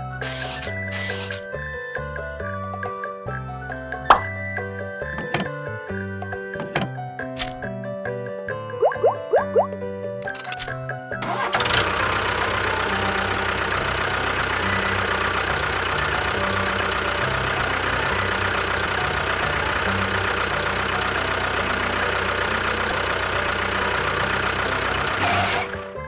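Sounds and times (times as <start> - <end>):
engine idling with knocking beat: 0.0 - 7.0, 11.2 - 26.0.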